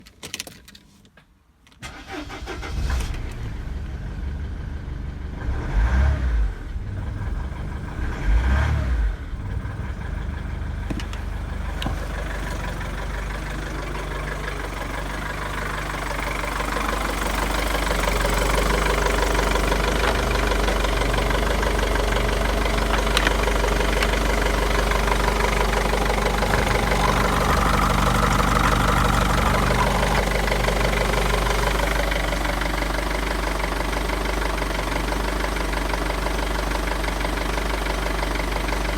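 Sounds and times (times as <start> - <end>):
diesel engine starting and idling: 1.8 - 38.9.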